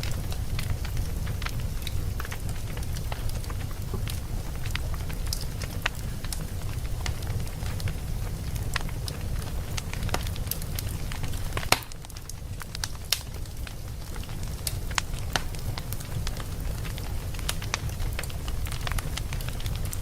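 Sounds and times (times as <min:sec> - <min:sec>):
low fire rumble: 0:00.0 - 0:20.0
wood fire crackling and popping: 0:00.0 - 0:20.0.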